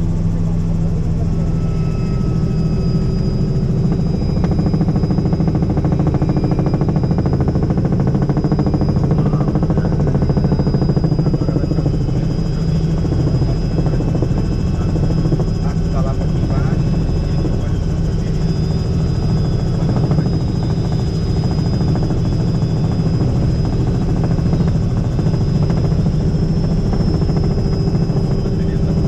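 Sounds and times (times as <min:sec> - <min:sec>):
helicopter engine and rotor noise: 0:00.0 - 0:29.0
high turbine whine: 0:00.0 - 0:29.0.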